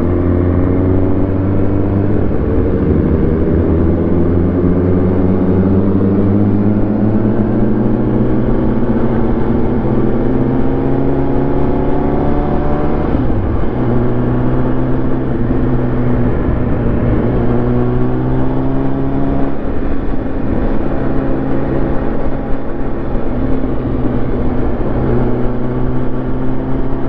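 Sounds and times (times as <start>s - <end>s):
motorcycle engine: 0.0s - 27.0s
wind rumble on microphone: 0.0s - 27.0s.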